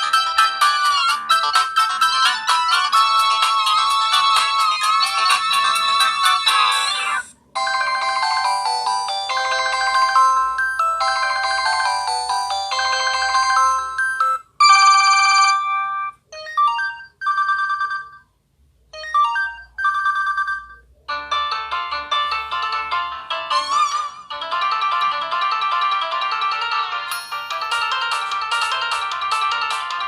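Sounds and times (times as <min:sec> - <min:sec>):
electronic phone ringtones: 0:00.0 - 0:07.0, 0:07.6 - 0:18.3, 0:19.0 - 0:30.0.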